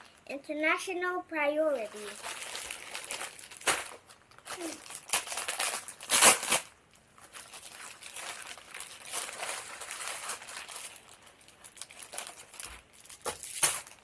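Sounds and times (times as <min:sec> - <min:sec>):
plastic packaging crinkling: 0:01.7 - 0:14.0.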